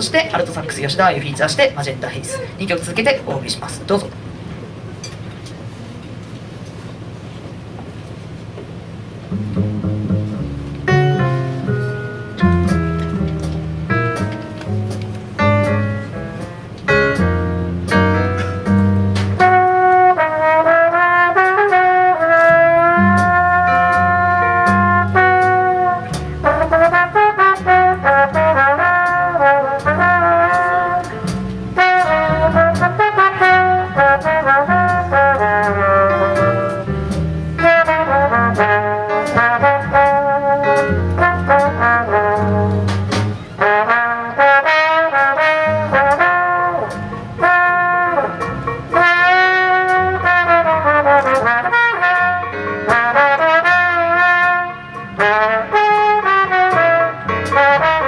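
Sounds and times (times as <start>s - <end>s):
big band rhythm section: 9.0s - 58.0s
solo trombone melody: 9.3s - 58.0s.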